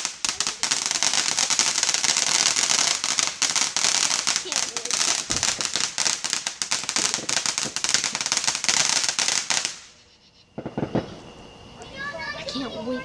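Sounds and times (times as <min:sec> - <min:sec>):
firework crackling: 0:00.0 - 0:10.0, 0:10.6 - 0:13.0.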